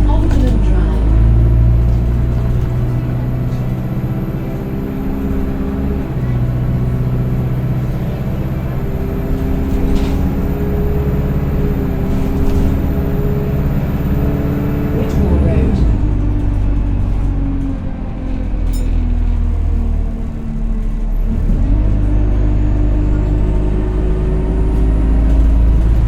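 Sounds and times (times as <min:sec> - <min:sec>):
bus engine whining: 0:00.0 - 0:26.0.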